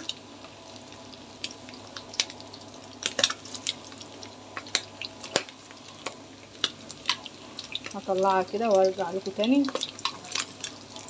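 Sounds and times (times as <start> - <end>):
food sizzling in hot oil: 0.0 - 11.0
oil crackling and popping: 0.0 - 11.0.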